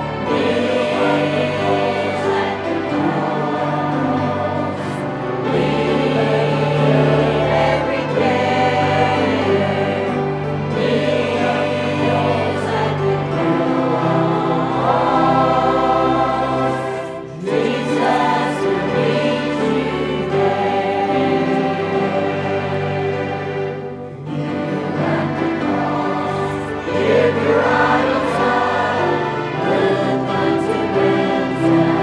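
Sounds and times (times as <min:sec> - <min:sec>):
church choir singing a hymn: 0:00.0 - 0:32.0.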